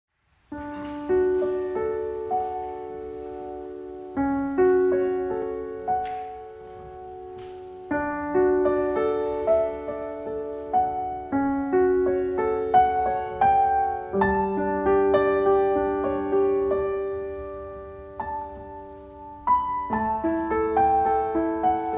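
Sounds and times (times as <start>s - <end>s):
gentle classical piano piece: 0.1s - 21.9s.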